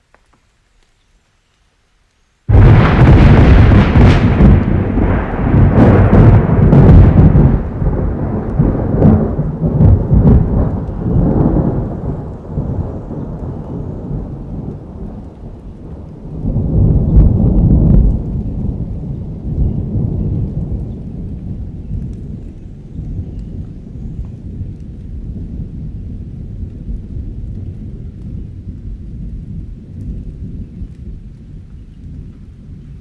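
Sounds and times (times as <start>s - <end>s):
steady rain: 0.0s - 33.0s
thunder rolling: 2.5s - 33.0s.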